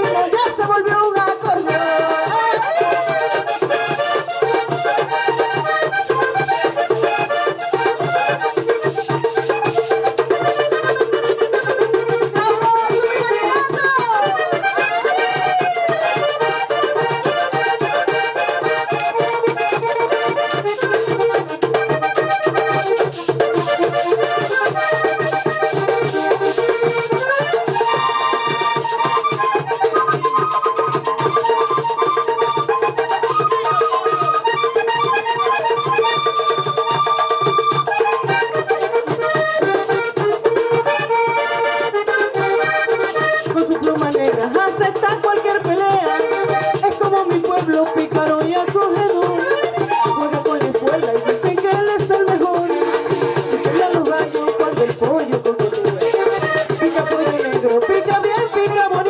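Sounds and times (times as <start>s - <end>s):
accordion playing fast: 0.0s - 59.0s
quick hand percussion: 0.0s - 59.0s.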